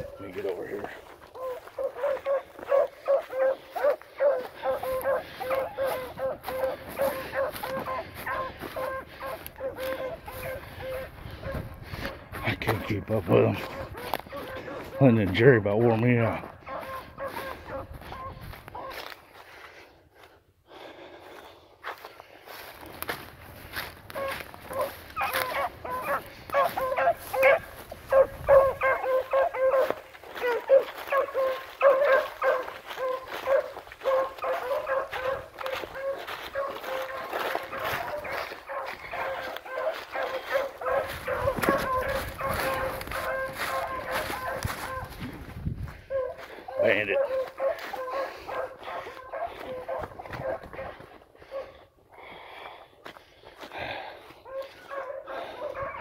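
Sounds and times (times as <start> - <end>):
hounds baying: 0.0 - 56.0.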